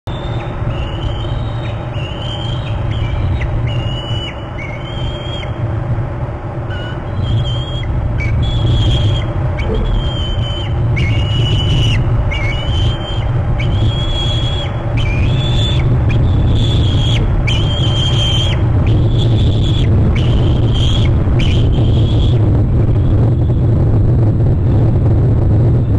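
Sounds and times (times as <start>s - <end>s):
eagle whistled calls: 0.1s - 5.6s, 6.7s - 22.4s
low rumble: 0.2s - 25.9s.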